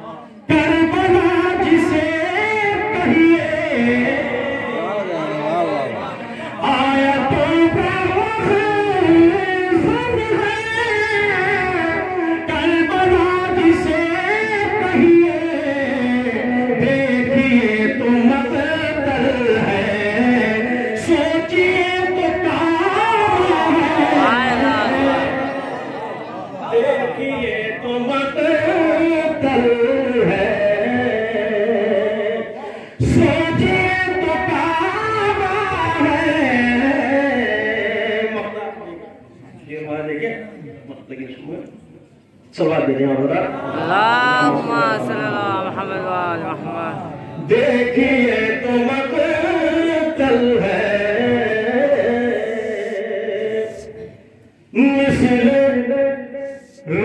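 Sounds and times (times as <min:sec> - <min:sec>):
man singing unaccompanied: 0:00.0 - 0:04.9, 0:06.6 - 0:25.6, 0:27.3 - 0:38.6, 0:43.7 - 0:57.0.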